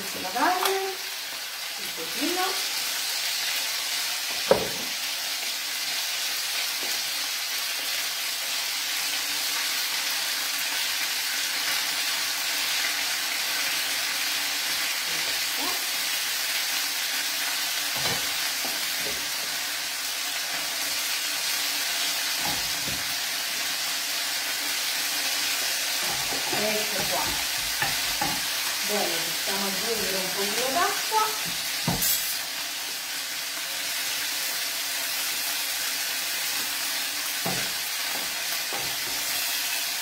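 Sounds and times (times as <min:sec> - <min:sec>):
meat sizzling in oil: 0:00.0 - 0:40.0.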